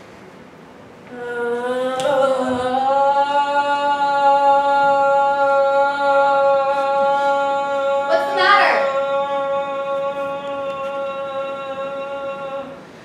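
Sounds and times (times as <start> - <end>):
person singing a long held note: 1.1 - 12.9.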